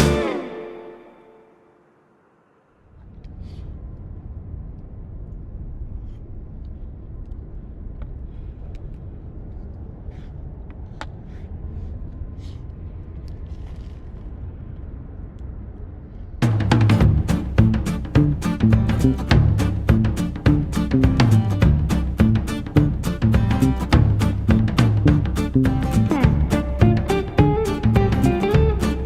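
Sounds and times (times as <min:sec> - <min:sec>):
low rumble: 0:02.5 - 0:29.0.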